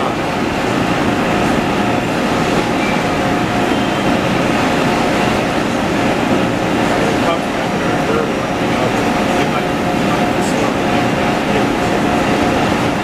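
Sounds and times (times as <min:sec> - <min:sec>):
factory machinery rumble: 0:00.0 - 0:13.0.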